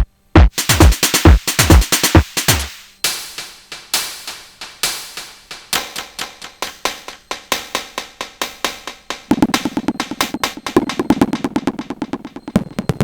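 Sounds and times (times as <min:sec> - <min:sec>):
drum machine percussion hits: 0:00.0 - 0:13.0
fast pulsing pitched synth: 0:00.0 - 0:13.0.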